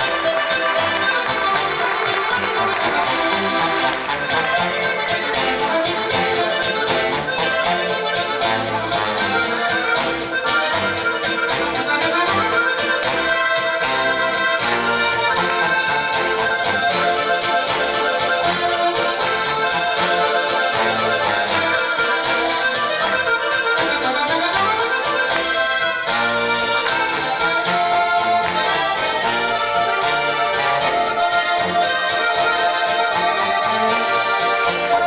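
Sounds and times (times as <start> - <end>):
bass line: 0.0 - 35.0
button accordions playing folk tune: 0.0 - 35.0
guitar: 0.0 - 35.0.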